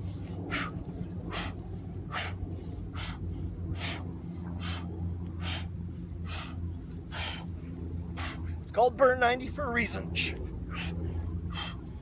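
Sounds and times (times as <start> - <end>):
man breathing forcefully: 0.0 - 8.7, 10.6 - 12.0
steady low rumble: 0.0 - 12.0.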